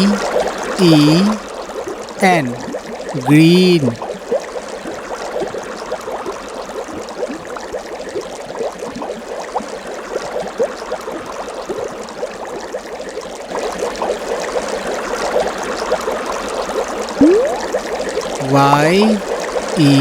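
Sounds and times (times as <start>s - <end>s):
water bubbling and trickling: 0.0s - 13.2s, 17.2s - 20.0s.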